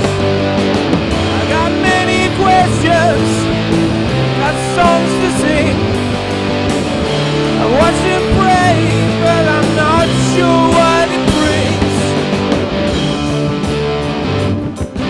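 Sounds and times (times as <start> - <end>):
drums: 0.0 - 15.0
electric guitars: 0.0 - 15.0.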